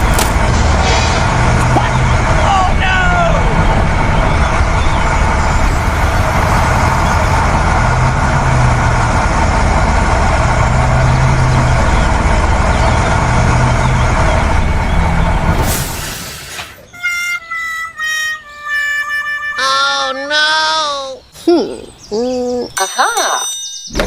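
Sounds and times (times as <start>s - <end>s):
vehicle engine humming: 0.0s - 22.6s.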